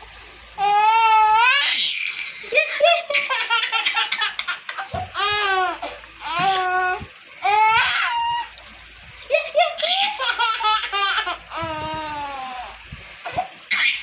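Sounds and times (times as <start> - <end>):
toddler laughing: 0.6 - 8.5, 9.2 - 14.0.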